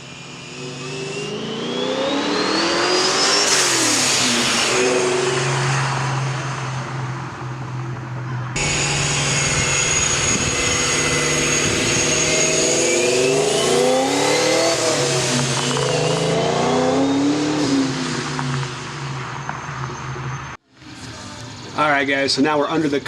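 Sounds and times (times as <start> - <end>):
car engine revving: 0.0 - 20.6.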